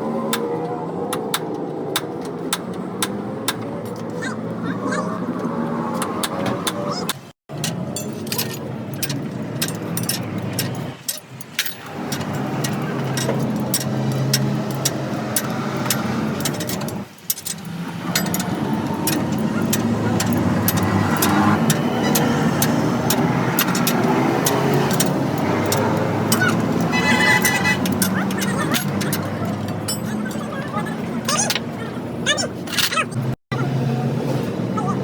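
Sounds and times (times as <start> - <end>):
sharp clicks and knocks: 0.3 - 4.2, 5.9 - 30.6
truck engine running: 6.6 - 35.0.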